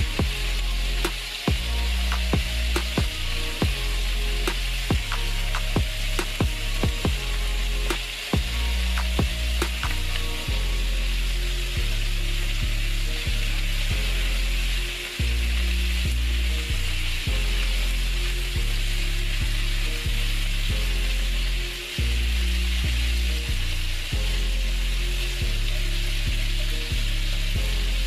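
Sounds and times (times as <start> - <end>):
background music: 0.0 - 28.0
food sizzling in oil: 0.0 - 28.0.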